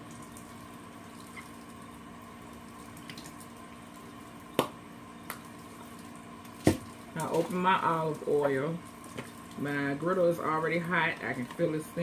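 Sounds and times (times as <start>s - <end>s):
kitchen appliance hum: 0.0s - 12.0s.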